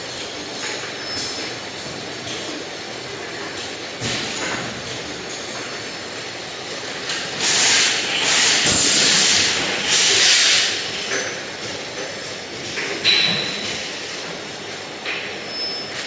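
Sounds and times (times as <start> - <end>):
conveyor machinery running: 0.0 - 16.0.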